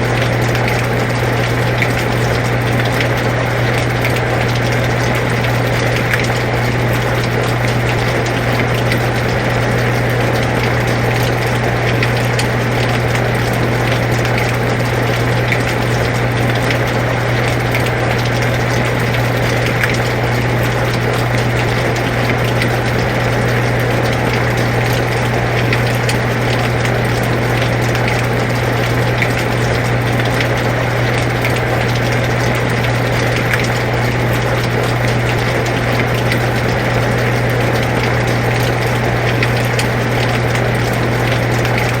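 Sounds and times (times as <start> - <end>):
air conditioner humming: 0.0 - 42.0
raindrop ticks: 0.1 - 42.0.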